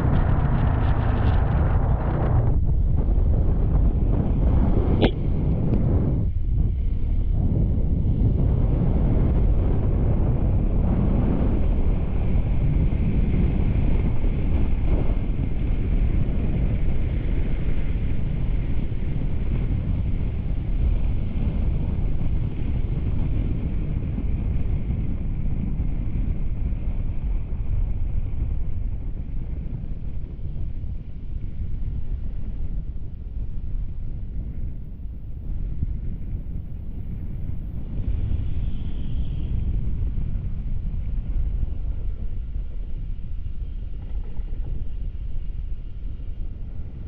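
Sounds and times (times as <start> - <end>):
faint steady whine: 0.0 - 47.0
wind buffeting microphone: 0.0 - 47.0.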